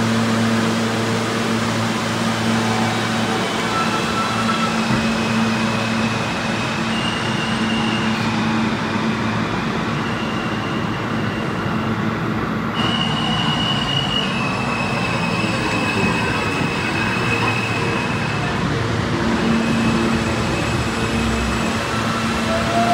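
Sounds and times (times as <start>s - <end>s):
steel wheels squealing on rails: 0.0s - 22.9s
subway train rumbling: 0.0s - 22.9s.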